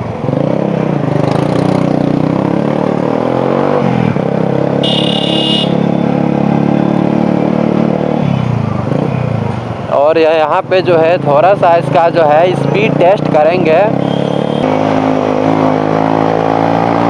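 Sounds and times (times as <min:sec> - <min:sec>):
motorcycle engine accelerating: 0:00.2 - 0:09.5, 0:11.8 - 0:17.0.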